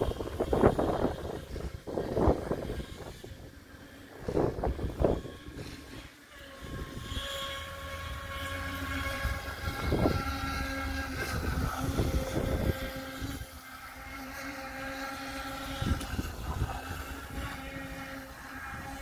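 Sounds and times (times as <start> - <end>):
model boat motor whining: 0.0 - 19.0
wind buffeting microphone: 0.0 - 19.0.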